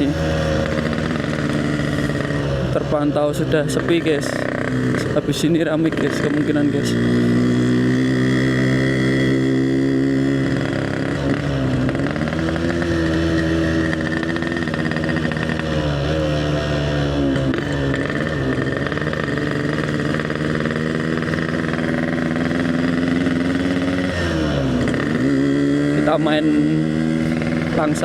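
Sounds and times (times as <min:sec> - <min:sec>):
two-stroke motorcycle engine running: 0:00.0 - 0:28.0.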